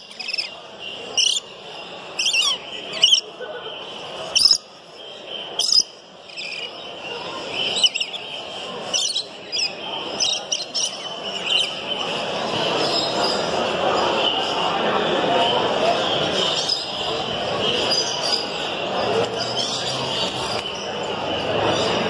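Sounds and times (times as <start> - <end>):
chatter of small birds: 0.0 - 22.0.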